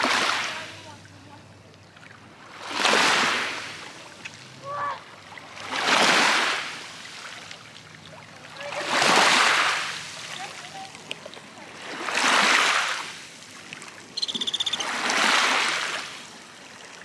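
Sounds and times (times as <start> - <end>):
waves washing onto stony shore: 0.0 - 1.0, 2.5 - 14.2, 14.8 - 17.0.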